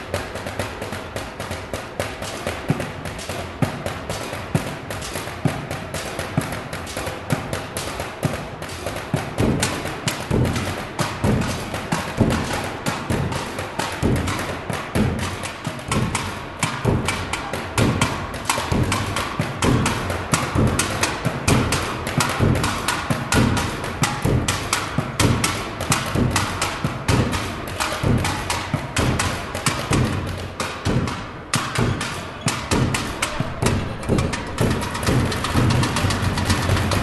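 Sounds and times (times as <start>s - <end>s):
drumming on plastic bins: 0.0s - 37.0s.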